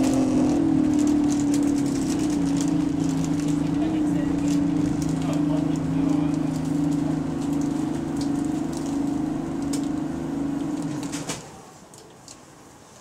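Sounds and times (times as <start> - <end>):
air compressor droning: 0.0 - 11.2.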